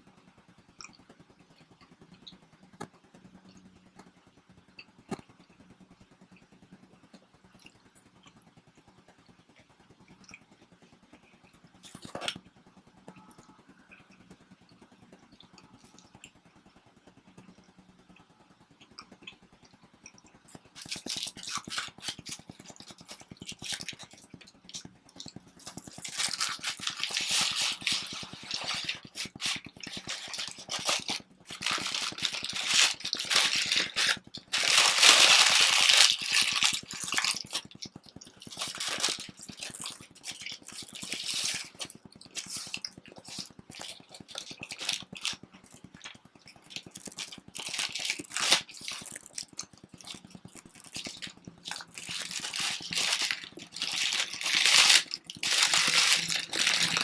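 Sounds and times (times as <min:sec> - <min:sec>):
chewing and crunching food: 0:00.7 - 0:05.7, 0:06.4 - 0:57.0.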